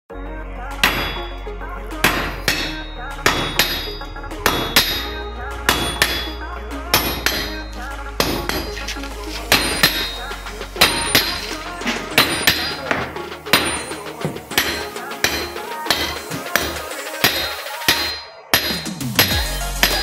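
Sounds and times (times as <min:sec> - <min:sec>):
hammer striking steel on anvil: 0:00.8 - 0:01.4, 0:02.0 - 0:06.4, 0:07.0 - 0:08.8, 0:09.5 - 0:11.5, 0:12.2 - 0:20.0.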